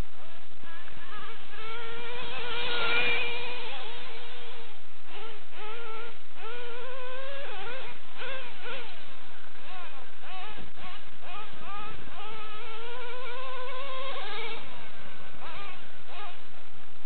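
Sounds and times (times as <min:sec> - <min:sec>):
nitro engine revving high: 0:00.0 - 0:16.6.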